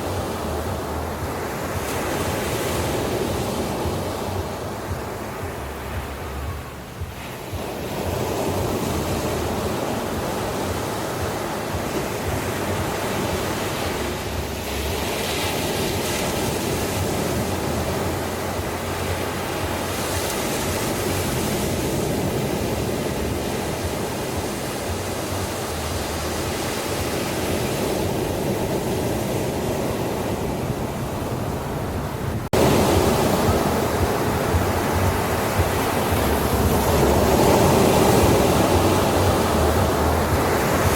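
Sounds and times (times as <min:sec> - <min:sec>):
ocean surf washing on beach: 0:00.0 - 0:40.9.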